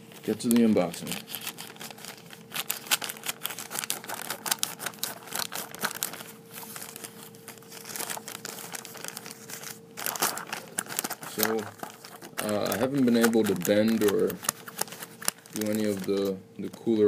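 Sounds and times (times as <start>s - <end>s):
plastic envelope crinkling: 0.0s - 17.0s.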